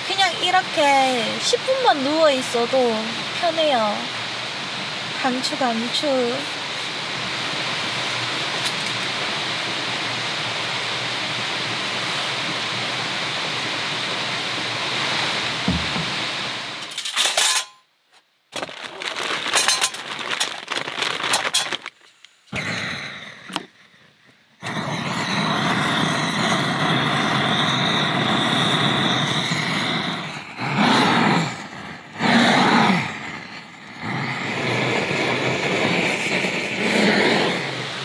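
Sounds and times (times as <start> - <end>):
blowtorch flame hissing: 0.0 - 17.0, 18.8 - 38.0.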